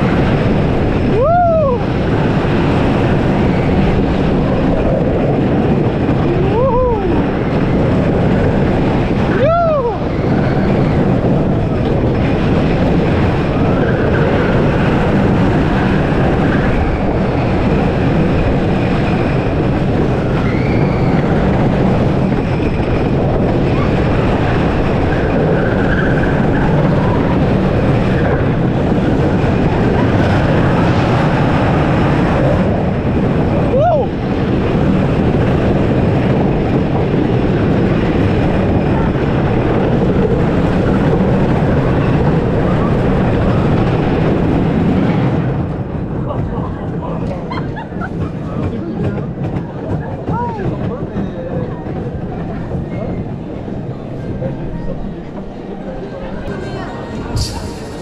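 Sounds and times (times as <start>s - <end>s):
roller coaster rumbling on wooden track: 0.0s - 58.0s.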